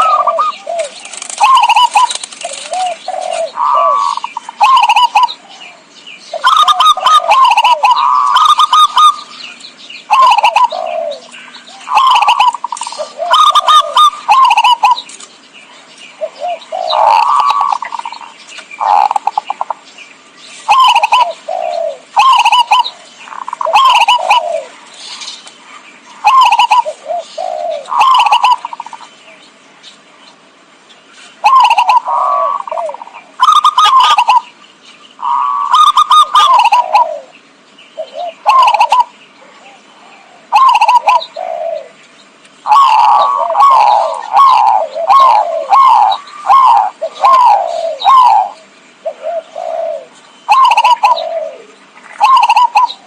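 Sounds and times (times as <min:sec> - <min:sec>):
dove cooing: 0:00.0 - 0:15.3, 0:16.1 - 0:19.8, 0:20.6 - 0:29.1, 0:31.4 - 0:34.6, 0:35.2 - 0:37.4, 0:38.0 - 0:42.0, 0:42.6 - 0:53.0.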